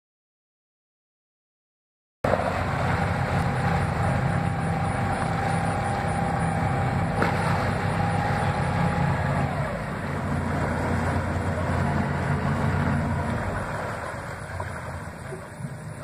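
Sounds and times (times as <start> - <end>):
boat engine rumbling: 2.2 - 16.0
thrusters whining: 2.3 - 16.0.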